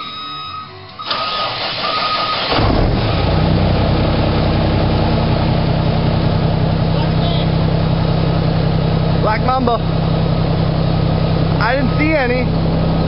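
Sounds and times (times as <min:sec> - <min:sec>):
diesel truck engine starting and idling: 0:00.0 - 0:13.0.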